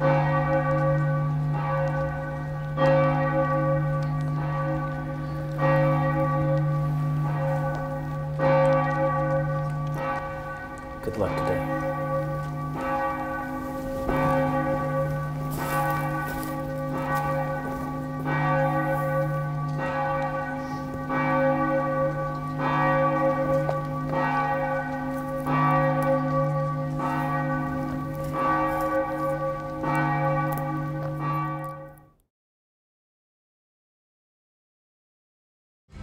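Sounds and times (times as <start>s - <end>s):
large bell tolling: 0.0s - 32.0s.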